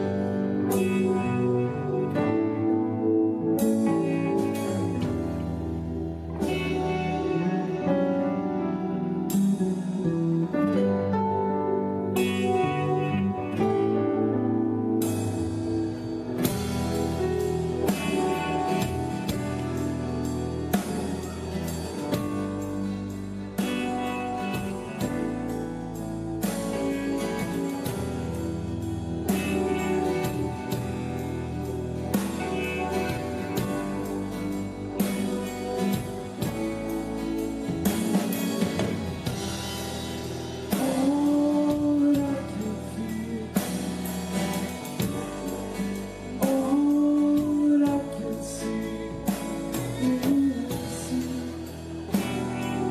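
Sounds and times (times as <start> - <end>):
drum kit beat: 0.0 - 10.4, 15.0 - 52.9
bass guitar: 0.0 - 52.9
electric guitar: 0.0 - 52.9.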